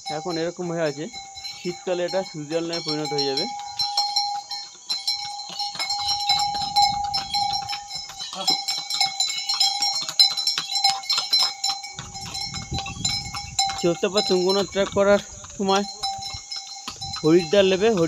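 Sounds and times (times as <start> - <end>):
harness bells jingling: 0.0 - 18.0.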